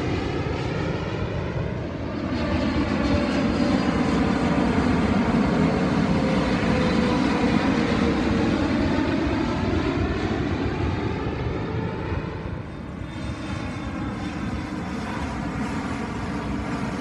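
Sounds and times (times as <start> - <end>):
jet engine roar with whine: 0.0 - 17.0.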